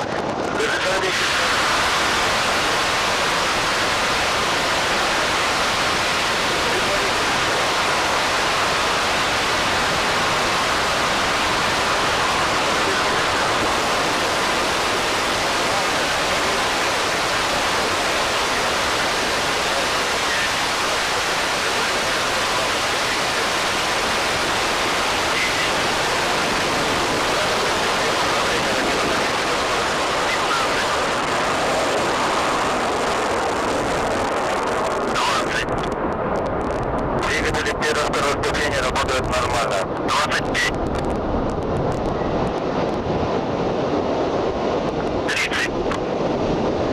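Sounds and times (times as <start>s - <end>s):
rocket engines roaring: 0.0s - 46.9s.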